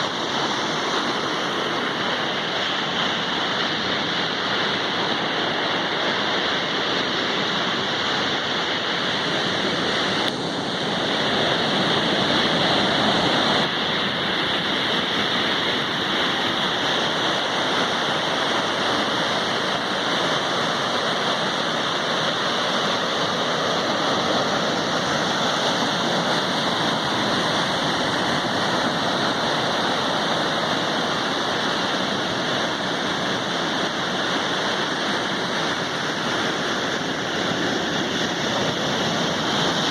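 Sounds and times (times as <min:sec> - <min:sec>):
sea surf washing onto shore: 0:00.0 - 0:39.9.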